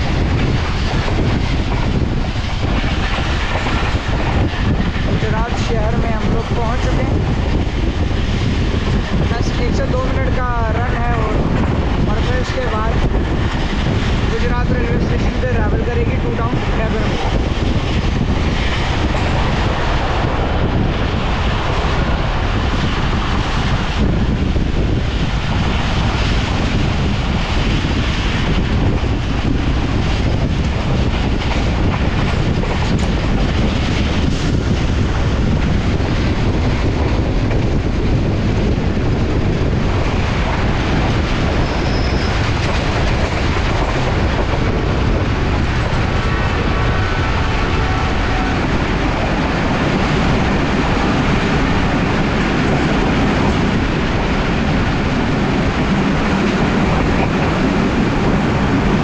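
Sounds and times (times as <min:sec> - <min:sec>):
rushing wind: 0:00.0 - 0:59.0
train wheels rumbling on rails: 0:00.0 - 0:59.0.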